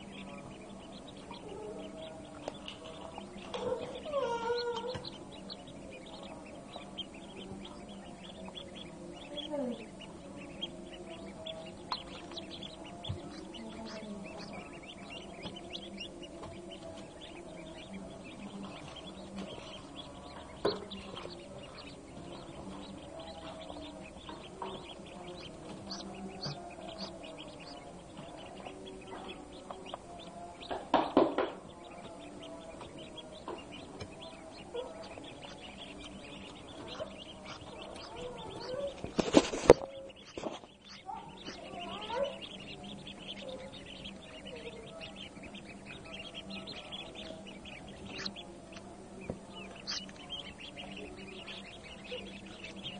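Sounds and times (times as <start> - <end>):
ducklings peeping: 0.0 - 52.9.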